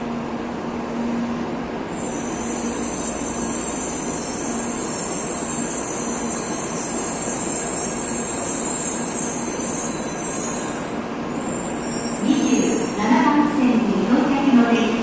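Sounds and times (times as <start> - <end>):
train high-pitched whine: 0.0 - 13.2.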